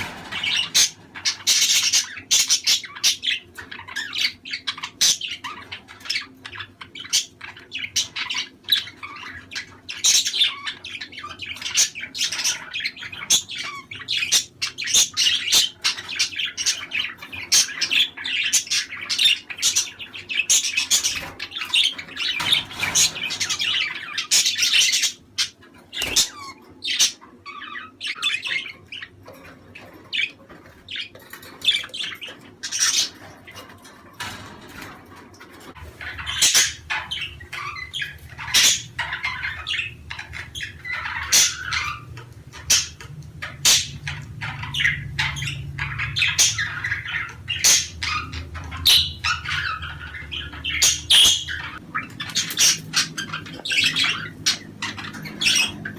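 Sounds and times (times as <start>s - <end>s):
budgerigars chattering and squawking: 0.0s - 55.9s.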